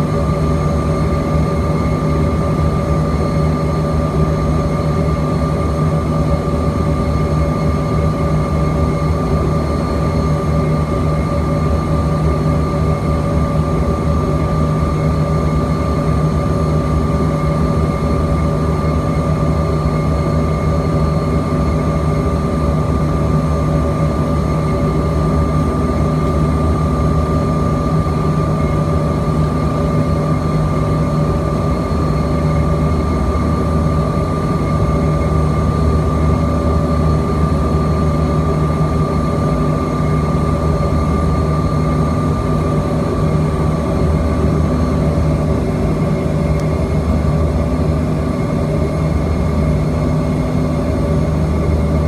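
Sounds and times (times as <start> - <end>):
high engine whine: 0.0 - 52.0
jet engines rumbling in cabin: 0.0 - 52.0.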